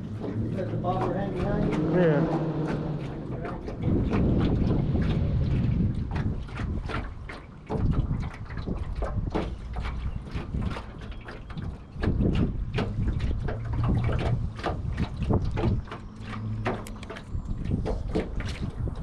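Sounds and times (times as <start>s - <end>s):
water slapping against boat hull: 0.0s - 19.0s
wind on microphone: 0.0s - 19.0s.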